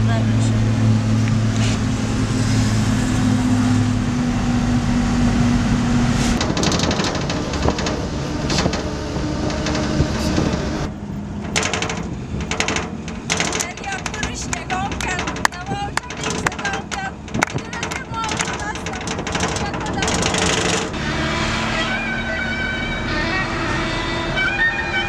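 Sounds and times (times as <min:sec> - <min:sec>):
truck engine hum: 0:00.0 - 0:25.0
wind and road noise: 0:00.0 - 0:25.0.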